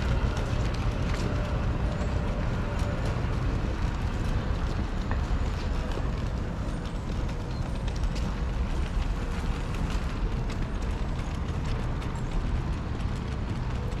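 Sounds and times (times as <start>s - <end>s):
low street rumble: 0.0s - 14.0s
small irregular clicks and taps: 0.0s - 14.0s.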